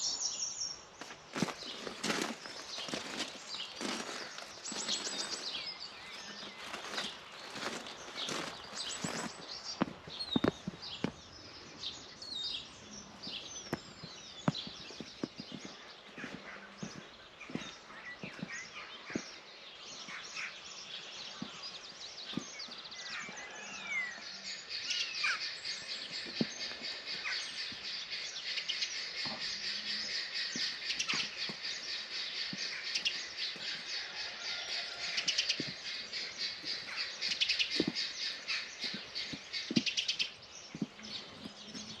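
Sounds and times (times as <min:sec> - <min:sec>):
songbirds singing and trilling: 0:00.0 - 0:42.0.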